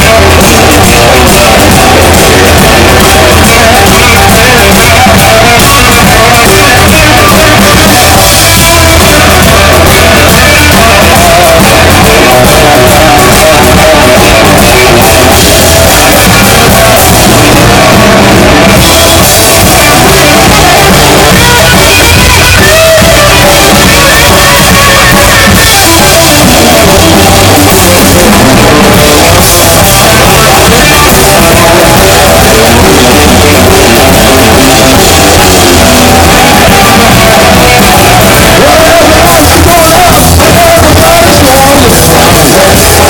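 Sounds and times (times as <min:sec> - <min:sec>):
bass guitar: 0:00.0 - 0:43.0
drum kit: 0:00.0 - 0:43.0
electric guitar: 0:00.0 - 0:43.0.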